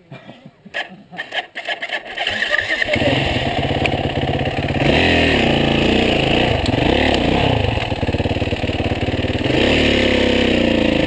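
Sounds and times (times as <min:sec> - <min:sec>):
dirt bike engine revving: 0:01.3 - 0:11.0.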